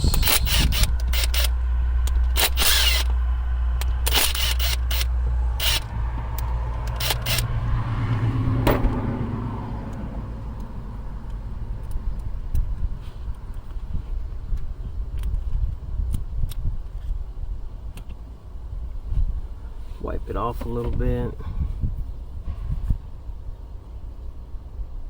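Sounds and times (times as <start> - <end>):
steady low hum: 0.0 - 20.5.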